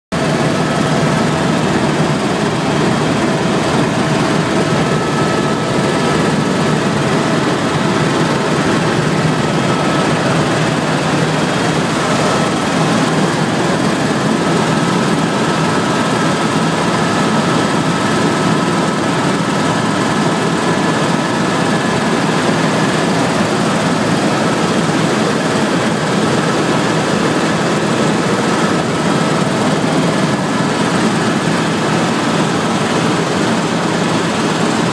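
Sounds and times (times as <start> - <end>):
helicopter engine and rotor noise: 0.1 - 34.9.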